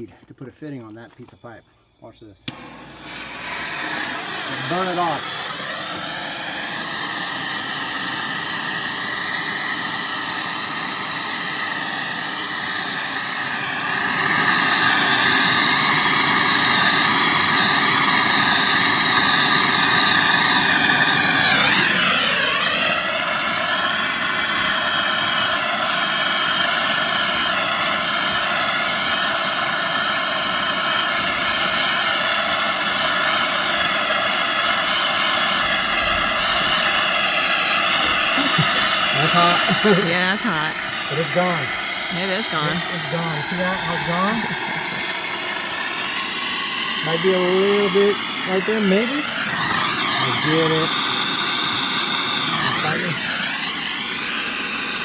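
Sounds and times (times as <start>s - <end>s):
torch flame hissing: 0.0s - 55.0s.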